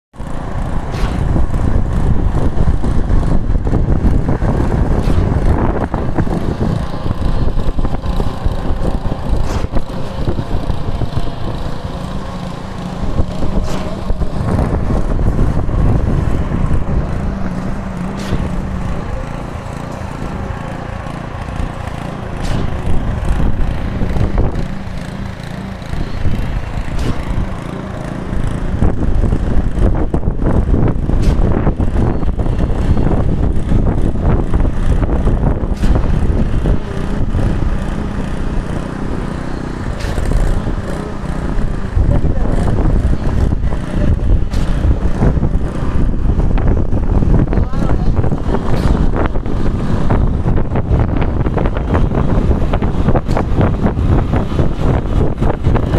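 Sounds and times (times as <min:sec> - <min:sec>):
heavy diesel engine running: 0:00.2 - 0:55.9.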